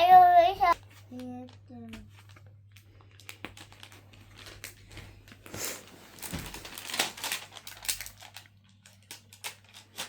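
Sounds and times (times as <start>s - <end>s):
sticker sheet crinkling: 0.8s - 10.0s.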